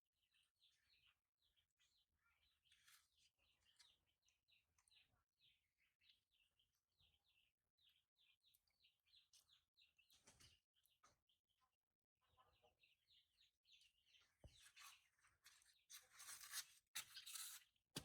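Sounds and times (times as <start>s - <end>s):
faint birds chirping: 0.1s - 18.0s.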